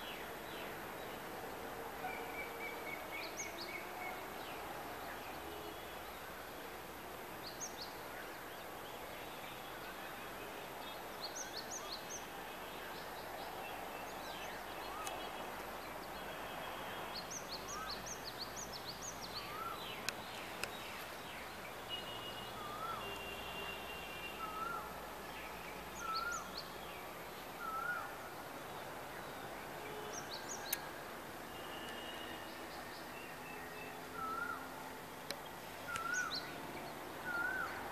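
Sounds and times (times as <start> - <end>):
outdoor background hiss: 0.0 - 37.9.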